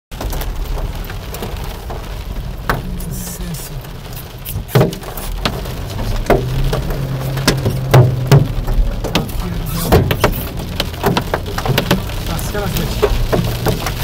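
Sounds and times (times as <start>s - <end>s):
rain drumming on car roof: 0.1s - 14.0s
low car hum: 0.2s - 14.0s.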